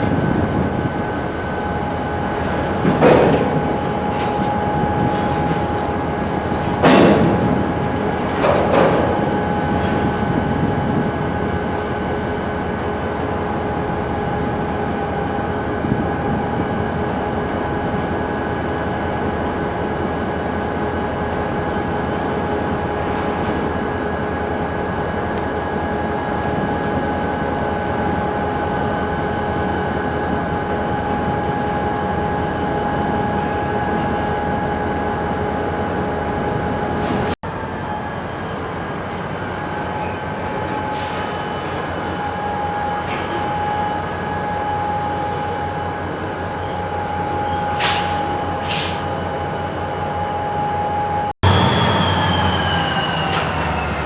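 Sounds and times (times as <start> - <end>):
train running rumble: 0.0 - 50.1, 51.4 - 54.0
high-pitched whine: 0.0 - 54.0.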